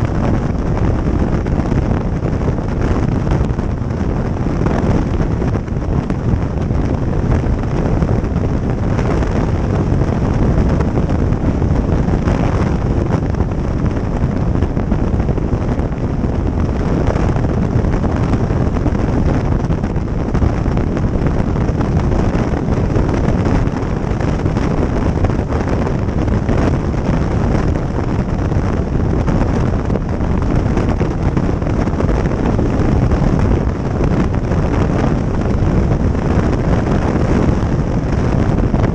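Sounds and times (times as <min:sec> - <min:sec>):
road and engine noise: 0:00.0 - 0:38.9
wind rushing over microphone: 0:00.0 - 0:38.9.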